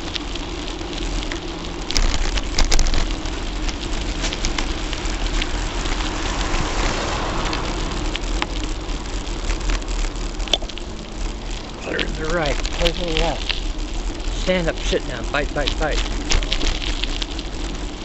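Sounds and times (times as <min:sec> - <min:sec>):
low wind rumble: 0:00.0 - 0:18.0
tyres rolling on gravelly asphalt: 0:00.0 - 0:18.0.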